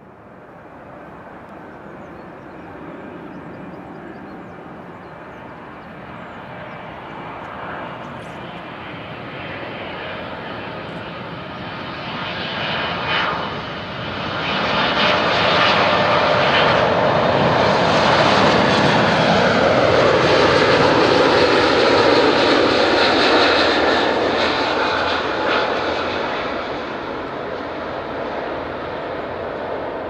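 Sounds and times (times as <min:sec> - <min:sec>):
jet airliner passing: 0:00.0 - 0:30.0.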